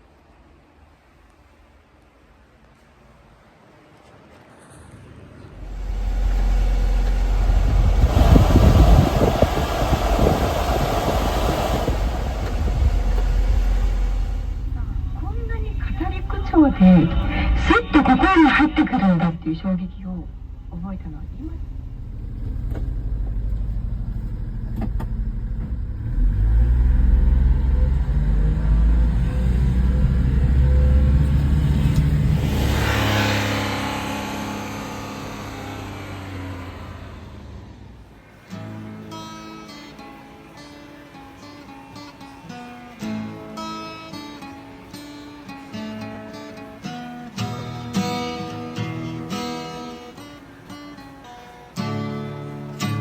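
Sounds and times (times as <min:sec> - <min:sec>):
small truck engine running: 0:05.3 - 0:53.0.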